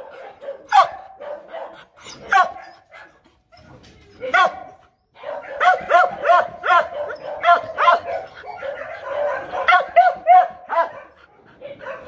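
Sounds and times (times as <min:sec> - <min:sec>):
dog barking: 0:00.0 - 0:03.1, 0:04.2 - 0:12.0.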